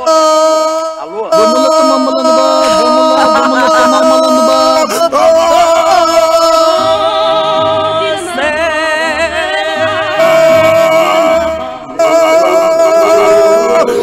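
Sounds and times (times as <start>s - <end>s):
man yelling drawn-out notes: 0.0s - 7.7s, 10.1s - 14.0s.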